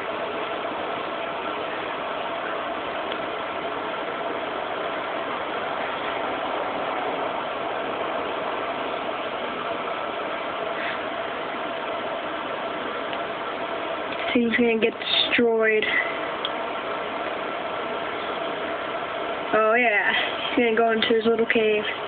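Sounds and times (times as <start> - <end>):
mechanical hum with hiss: 0.0 - 22.0.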